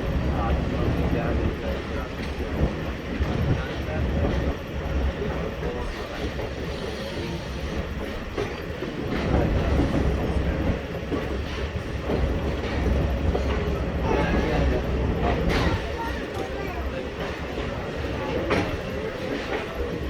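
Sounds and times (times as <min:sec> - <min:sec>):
train cars rolling along track: 0:00.0 - 0:20.0.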